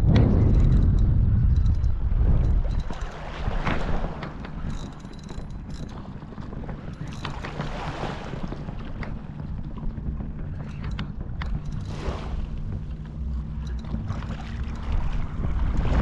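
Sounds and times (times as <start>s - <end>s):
sea water: 0.0s - 16.0s
wind buffeting microphone: 0.0s - 16.0s.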